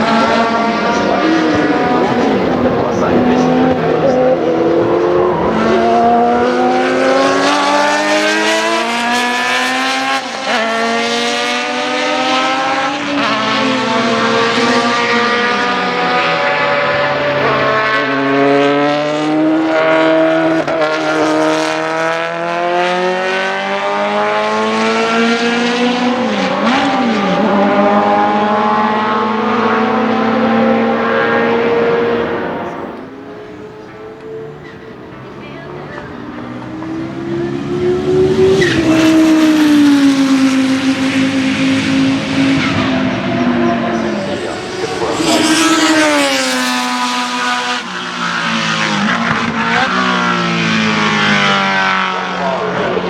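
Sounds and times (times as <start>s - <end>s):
race car engines accelerating: 0.0s - 53.0s.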